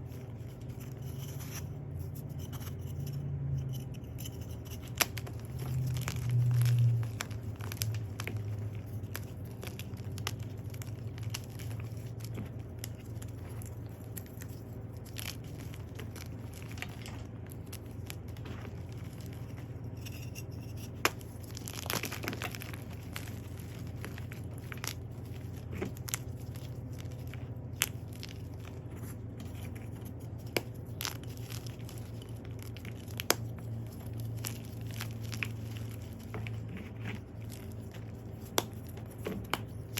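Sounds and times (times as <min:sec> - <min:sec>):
chalk crunching and crackling: 0:00.0 - 0:39.9
steady low hum: 0:00.0 - 0:39.9.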